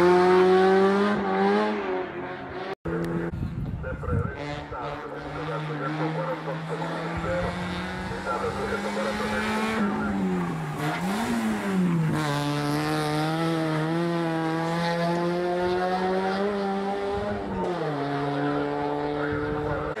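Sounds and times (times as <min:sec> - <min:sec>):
race car engine revving: 0:00.0 - 0:03.3, 0:04.0 - 0:20.0.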